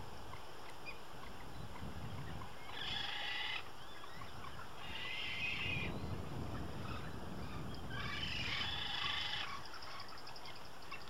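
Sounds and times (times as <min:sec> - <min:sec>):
frigatebird calls: 0:00.3 - 0:06.0, 0:06.8 - 0:11.0.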